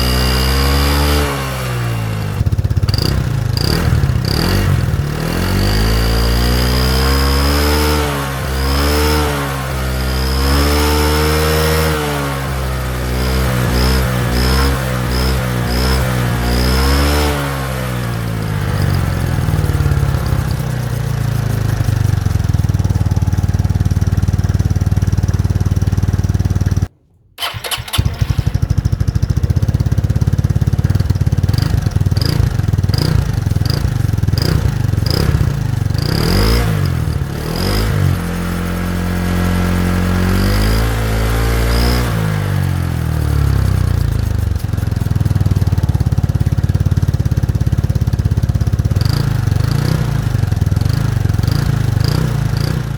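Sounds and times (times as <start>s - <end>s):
scooter engine idling and revving: 0.0s - 52.9s.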